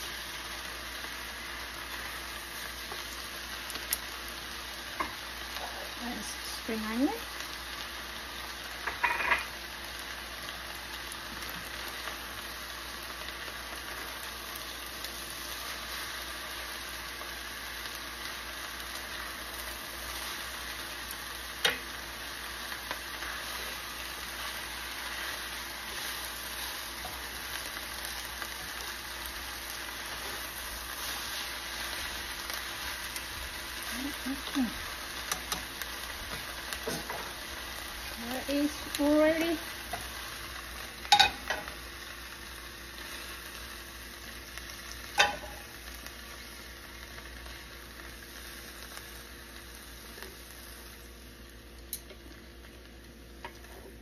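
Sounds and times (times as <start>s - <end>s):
noodles sizzling in a pan: 0.0s - 54.0s.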